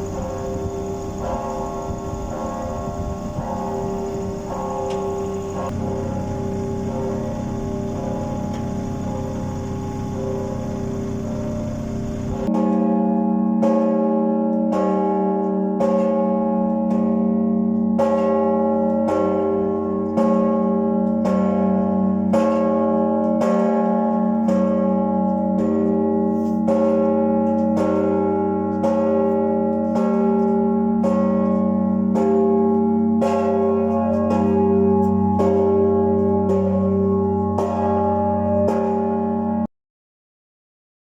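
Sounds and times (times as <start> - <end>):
church bell ringing: 0.0 - 39.7.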